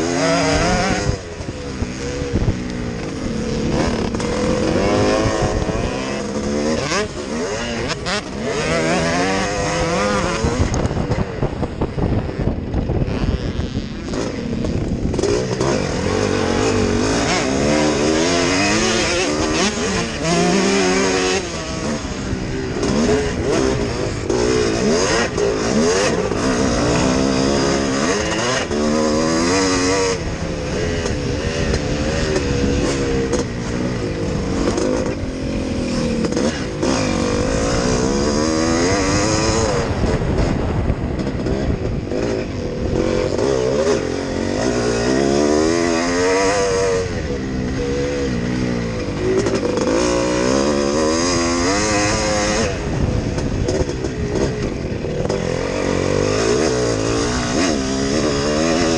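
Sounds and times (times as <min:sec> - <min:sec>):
motocross engine revving: 0:00.0 - 0:58.9
wind rushing over microphone: 0:00.0 - 0:58.9.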